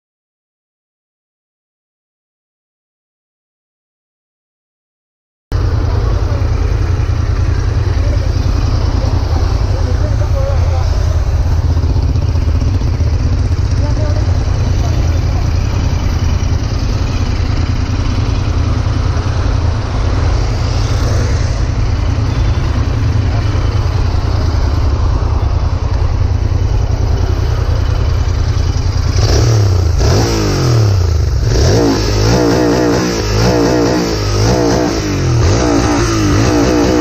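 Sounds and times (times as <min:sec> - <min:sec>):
motorcycle engine running: 0:05.5 - 0:37.0.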